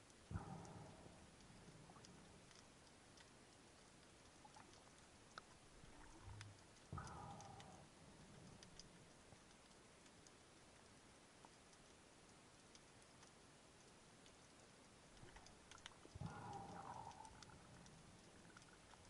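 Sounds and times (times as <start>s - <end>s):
faint underwater clicks and crackles: 0.0s - 19.0s.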